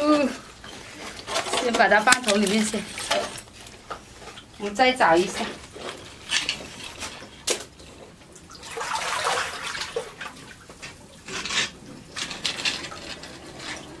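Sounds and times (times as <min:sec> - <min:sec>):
water sloshing and splashing: 0:00.2 - 0:14.0.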